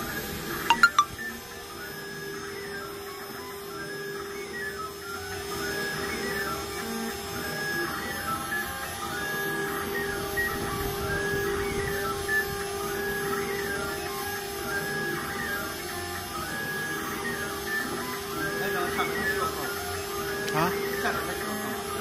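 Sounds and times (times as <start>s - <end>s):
router spindle whine: 0.0s - 22.0s.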